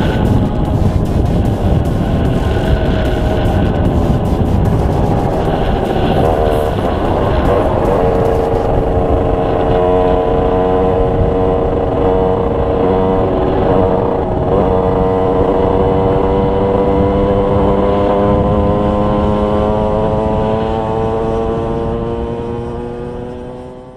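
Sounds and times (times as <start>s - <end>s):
two-stroke engine running: 0.0s - 20.2s.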